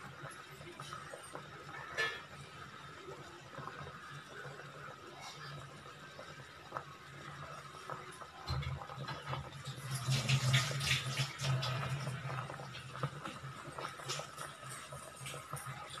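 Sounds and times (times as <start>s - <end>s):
curry boiling and bubbling: 0.0s - 16.0s.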